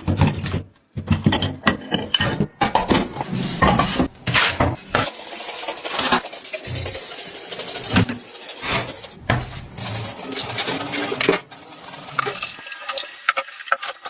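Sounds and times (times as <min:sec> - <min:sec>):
metal tools clinking and scraping: 0:01.2 - 0:09.2, 0:09.8 - 0:14.0.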